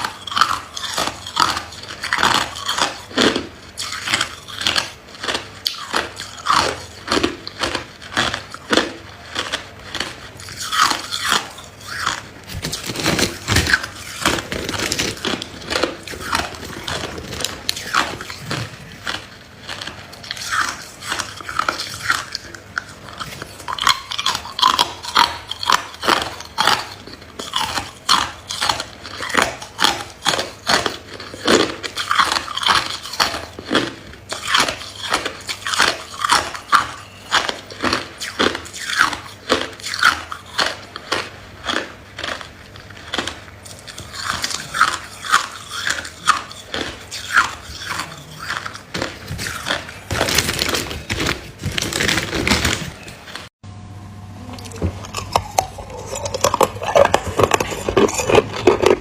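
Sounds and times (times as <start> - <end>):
ice cubes crunching: 0.0 - 53.4, 54.6 - 59.0.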